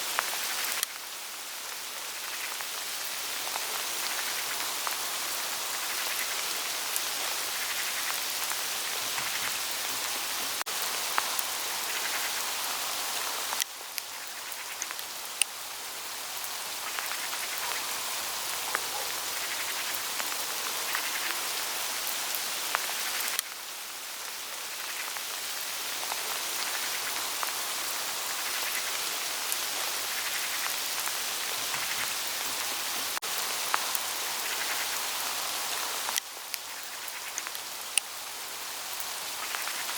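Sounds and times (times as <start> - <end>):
hail falling on leaves: 0.0 - 39.9.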